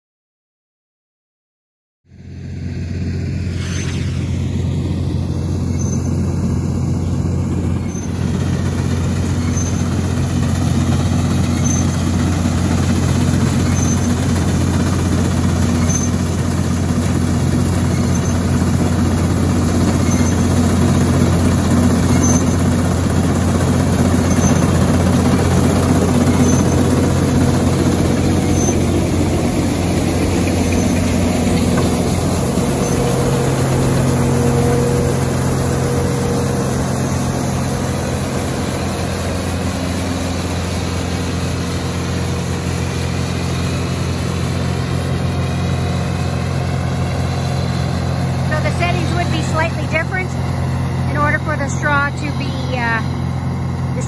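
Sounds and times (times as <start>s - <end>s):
combine harvester engine running: 2.1s - 54.0s.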